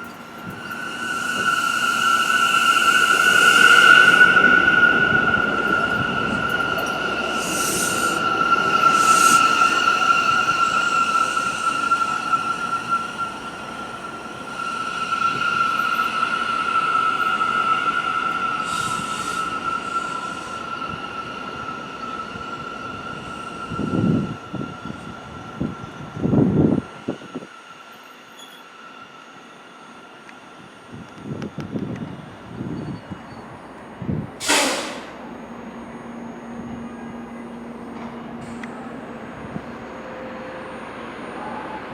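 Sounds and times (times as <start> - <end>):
train wheels squealing on rails: 0.0 - 41.9.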